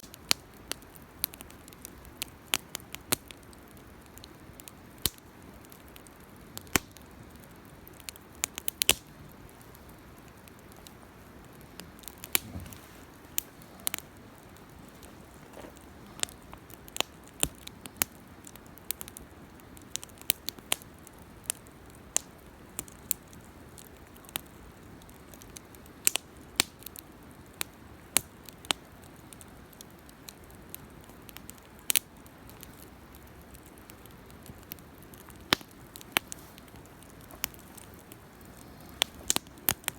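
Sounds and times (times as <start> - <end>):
campfire crackling and popping: 0.0 - 39.9
faint hiss of burning fire: 0.0 - 39.9.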